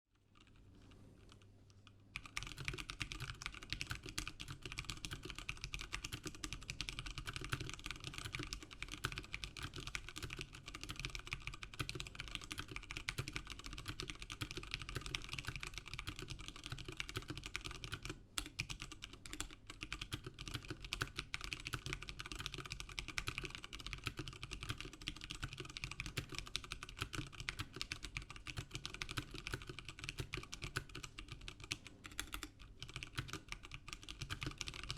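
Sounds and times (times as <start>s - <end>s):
mechanical keyboard typing: 2.2s - 34.9s.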